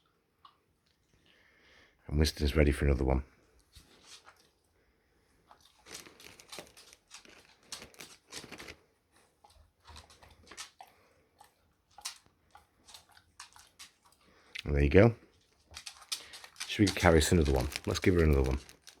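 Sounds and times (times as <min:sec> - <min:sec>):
dog chewing wetly: 0:03.5 - 0:19.0.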